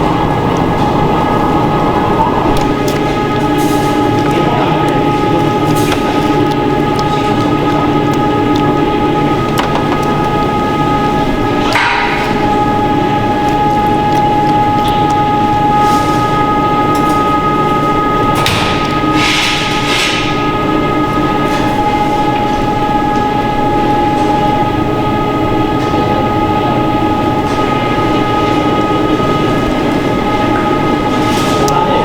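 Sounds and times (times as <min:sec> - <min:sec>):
machinery hum with whining tones: 0:00.0 - 0:32.0.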